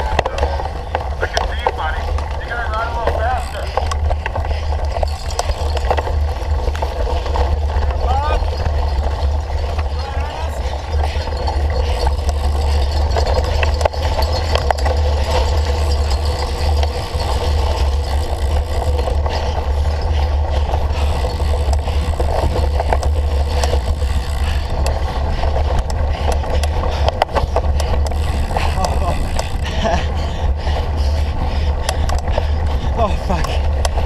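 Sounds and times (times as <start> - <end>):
bike clicks and rattles: 0.0 - 34.0
wind buffeting microphone: 0.0 - 34.0.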